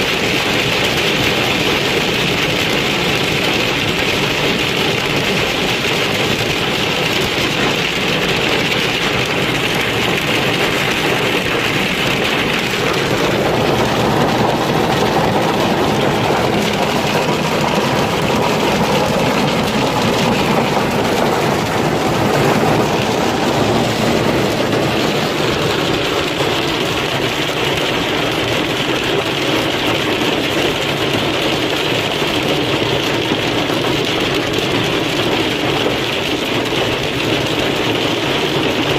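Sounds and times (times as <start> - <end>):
hailstones pelting hard surfaces: 0.0 - 38.9.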